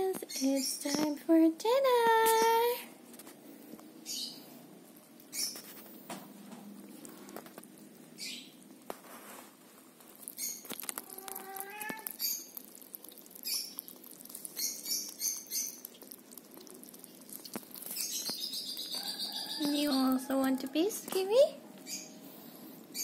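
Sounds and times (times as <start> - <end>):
kittens chewing and lapping: 3.0 - 23.0.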